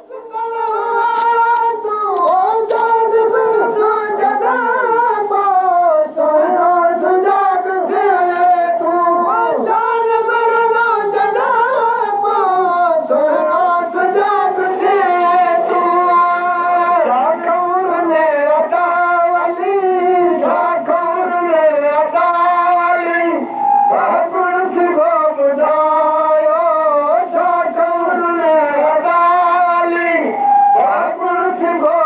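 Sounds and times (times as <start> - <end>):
high voice singing unaccompanied: 0.0 - 32.0.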